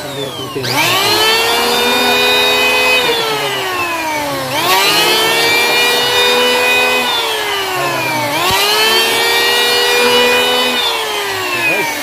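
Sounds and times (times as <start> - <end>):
electric hand planer motor whine: 0.0 - 12.0.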